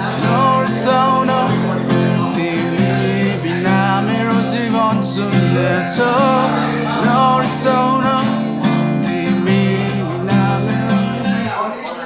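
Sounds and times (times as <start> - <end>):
person singing a song: 0.0 - 11.6
person singing wordless melody: 0.0 - 11.6
acoustic guitar strumming: 0.0 - 11.8.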